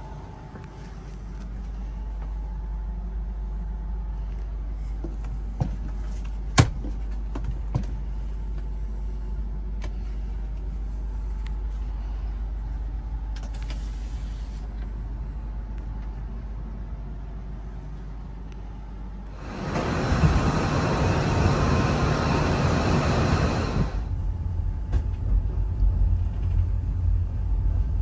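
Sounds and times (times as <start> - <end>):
train compartment low hum: 0.0 - 28.0.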